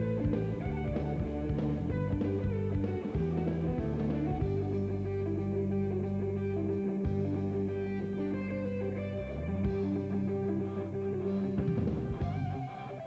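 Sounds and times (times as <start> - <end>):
bass line: 0.0 - 12.8
guitar background music: 0.0 - 13.0.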